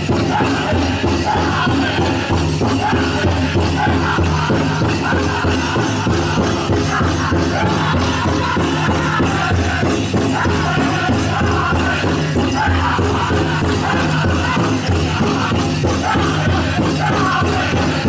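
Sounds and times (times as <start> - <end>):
big drum steady beat: 0.0 - 18.0
group singing: 0.0 - 18.0
jingling bells: 0.0 - 18.0.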